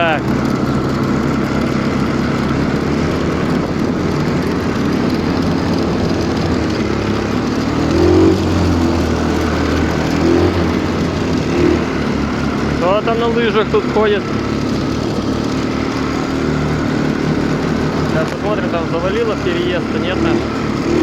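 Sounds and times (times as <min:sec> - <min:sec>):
snowmobile engine running: 0:00.0 - 0:21.0.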